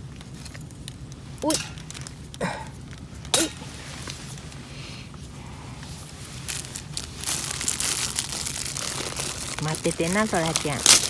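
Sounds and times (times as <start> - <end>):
plastic packaging crinkling: 0.0 - 4.6, 6.0 - 11.0.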